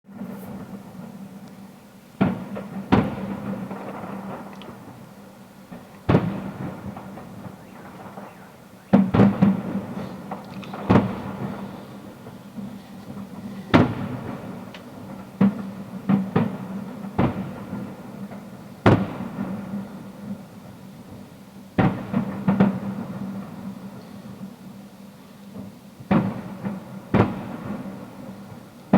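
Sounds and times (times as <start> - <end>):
fireworks bursting with echo: 0.1 - 24.9, 25.5 - 28.9.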